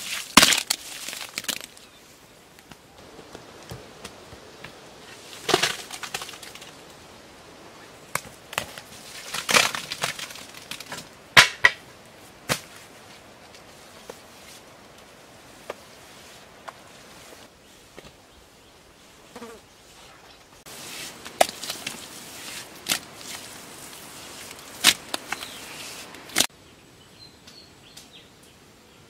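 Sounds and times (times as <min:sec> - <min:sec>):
dry grass rustling: 0:00.0 - 0:18.2, 0:19.9 - 0:26.5.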